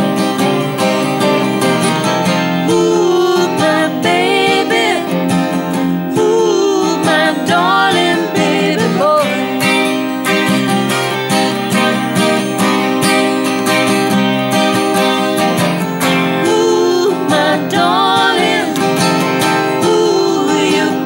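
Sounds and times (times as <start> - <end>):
strummed acoustic guitar: 0.0 - 21.0
wavering gliding lead melody: 0.0 - 21.0.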